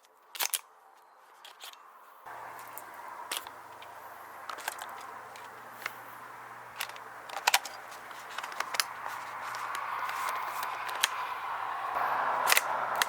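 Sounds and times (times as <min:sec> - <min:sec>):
steady low hum: 0:02.1 - 0:13.0.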